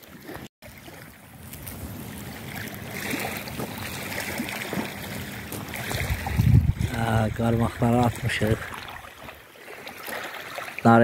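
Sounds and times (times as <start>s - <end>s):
waves washing on pebbles: 0.6s - 11.0s
steady wind: 0.8s - 11.0s.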